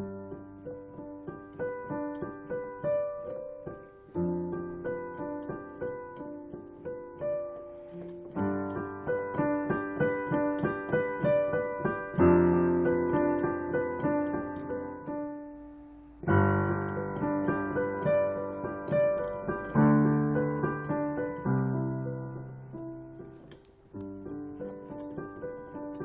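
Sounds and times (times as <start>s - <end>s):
piano playing gentle piece: 0.0s - 26.0s.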